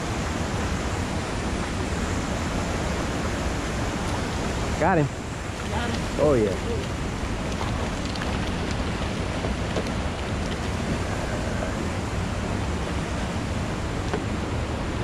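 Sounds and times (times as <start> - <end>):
moving water: 0.0 - 15.0
wind: 0.0 - 15.0.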